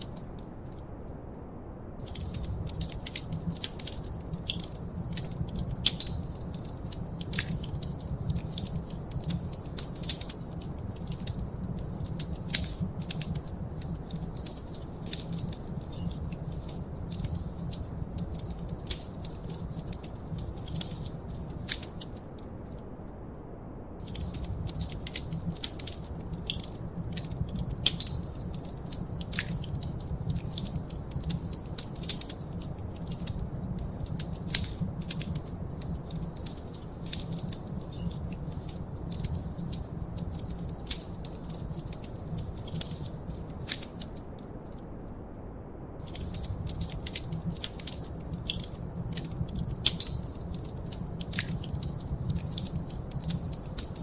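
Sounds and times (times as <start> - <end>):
wood fire crackling: 0.0 - 1.0, 2.0 - 23.0, 24.0 - 45.0, 46.0 - 54.0
low rumble of flame: 0.0 - 54.0.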